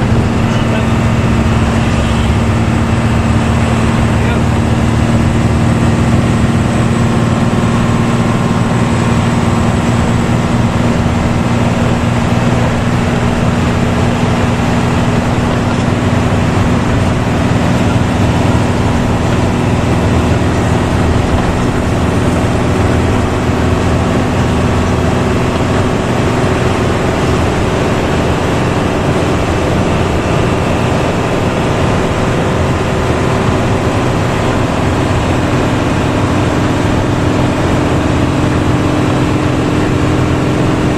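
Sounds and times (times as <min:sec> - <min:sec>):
bus diesel engine running: 0:00.0 - 0:40.9
deep droning exhaust: 0:00.0 - 0:40.9.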